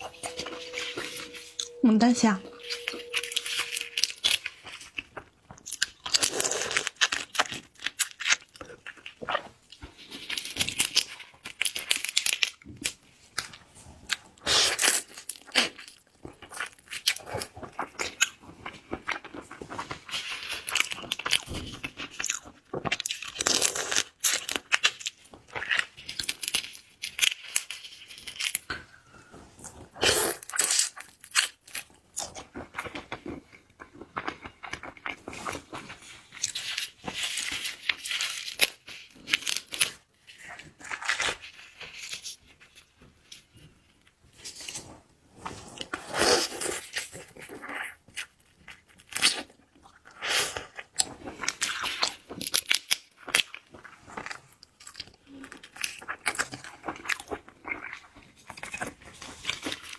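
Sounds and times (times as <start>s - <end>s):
crunching and chewing shrimp: 2.5s - 59.9s.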